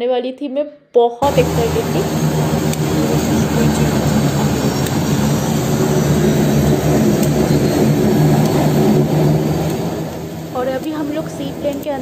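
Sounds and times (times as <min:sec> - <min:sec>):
plane engines droning in cabin: 0:01.2 - 0:12.0.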